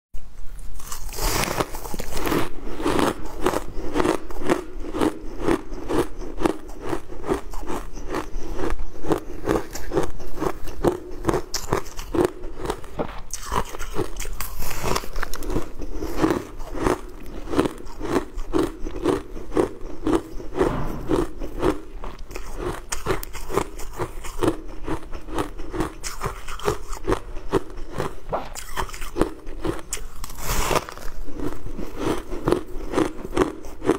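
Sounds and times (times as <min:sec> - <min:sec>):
ice being chewed crunching: 0:00.6 - 0:33.9.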